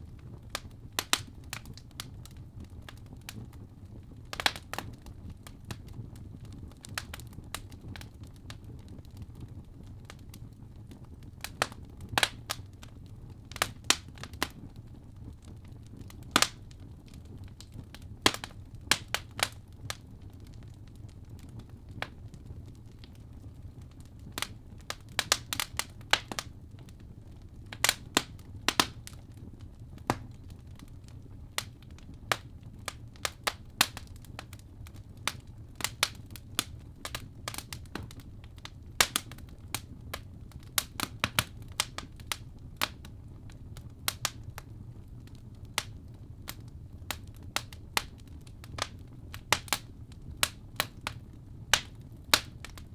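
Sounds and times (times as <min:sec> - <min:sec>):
fire popping and snapping: 0:00.0 - 0:52.9
wood fire crackling: 0:00.0 - 0:52.9.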